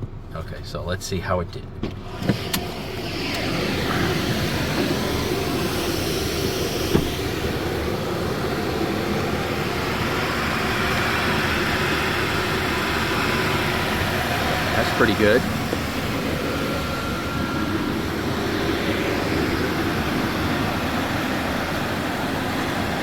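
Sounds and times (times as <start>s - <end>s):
air dryer blowers roaring: 1.8s - 23.0s.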